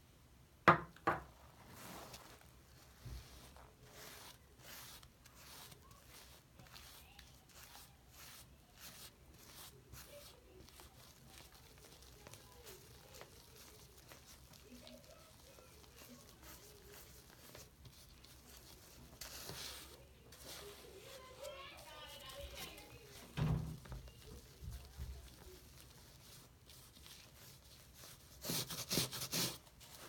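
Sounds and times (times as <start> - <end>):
wet sponge squishing and rubbing: 1.4 - 30.0.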